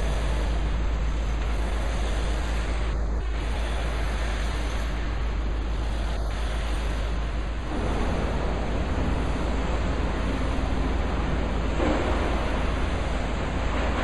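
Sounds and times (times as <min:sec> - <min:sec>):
city noise rumble and hiss: 0:00.0 - 0:14.0.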